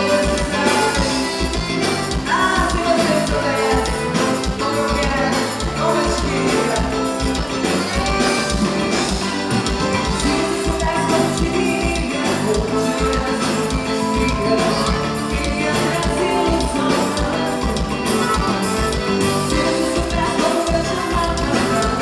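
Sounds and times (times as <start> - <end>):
band playing folk dance music: 0.0 - 22.0
steady drum beat: 0.0 - 22.0.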